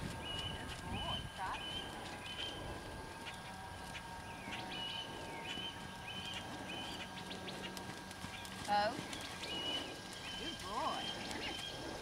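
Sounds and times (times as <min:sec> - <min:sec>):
horse hoofbeats on sand: 0:00.0 - 0:02.5, 0:03.2 - 0:11.8
bird chirping: 0:00.2 - 0:11.9.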